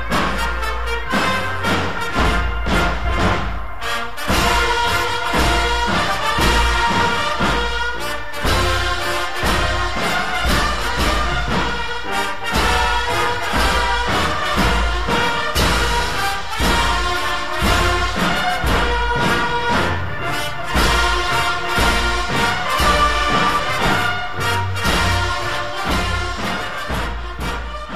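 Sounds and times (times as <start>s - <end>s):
orchestral music with brass: 0.0s - 27.9s
steady low beat: 0.0s - 27.9s.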